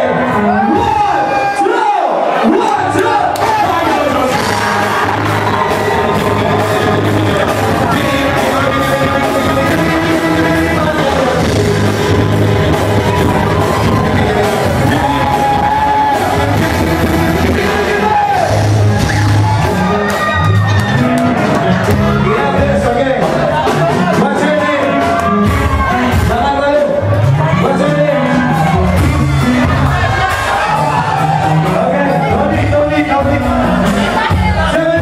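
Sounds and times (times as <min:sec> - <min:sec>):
live band playing pop music: 0:00.0 - 0:35.0
person singing: 0:03.4 - 0:35.0.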